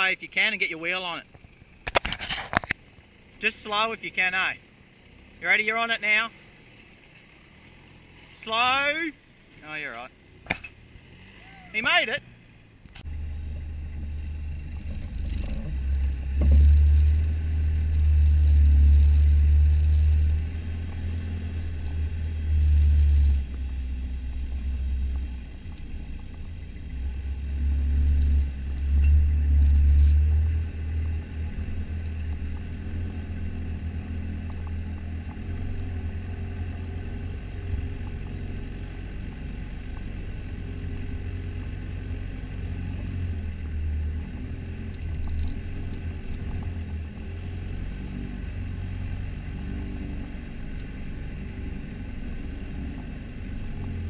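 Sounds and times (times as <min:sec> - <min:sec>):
engine rumbling: 0:00.0 - 0:54.0.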